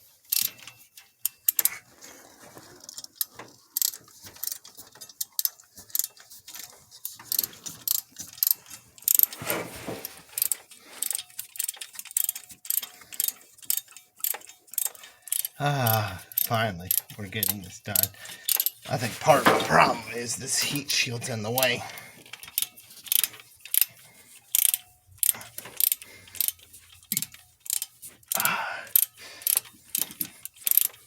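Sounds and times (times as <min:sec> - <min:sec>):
hand ratchet clicking: 0:00.0 - 0:01.8, 0:02.9 - 0:09.4, 0:10.2 - 0:18.9, 0:21.5 - 0:31.0.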